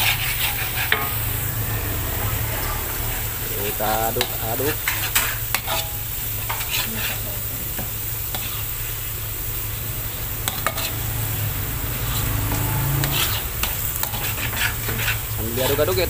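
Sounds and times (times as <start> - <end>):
metal spatula scraping wok: 0.0 - 16.0
spice paste sizzling in oil: 0.0 - 16.0.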